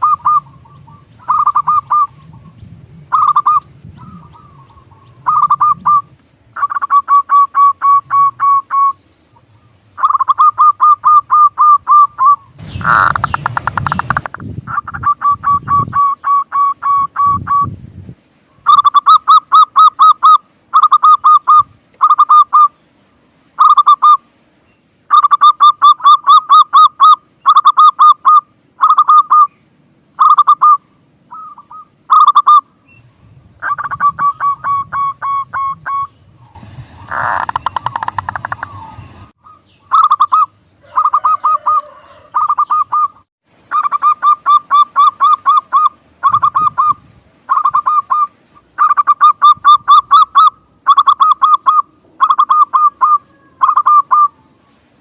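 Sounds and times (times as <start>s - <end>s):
dove calling repeated notes: 0.0s - 17.8s, 18.4s - 24.4s, 25.1s - 54.9s.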